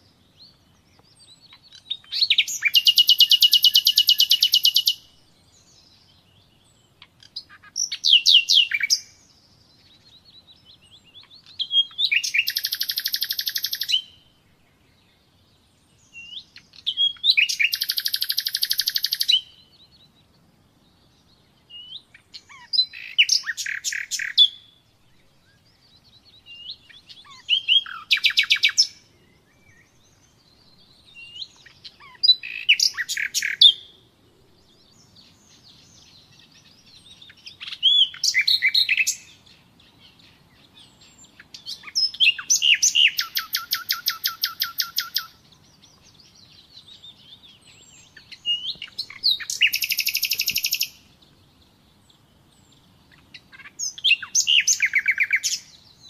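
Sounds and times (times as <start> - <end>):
nightingale singing trills: 0.0 - 56.0.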